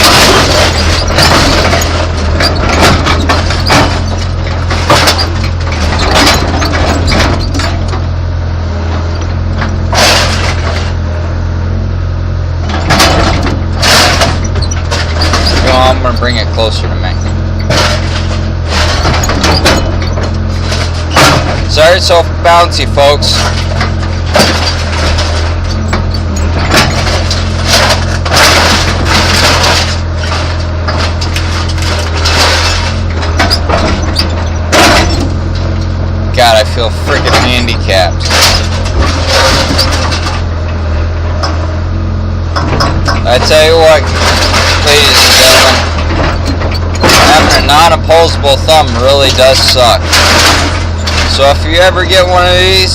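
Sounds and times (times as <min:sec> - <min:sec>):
diesel engine humming: 0:00.0 - 0:52.9
metal scraping and crunching: 0:00.0 - 0:52.9.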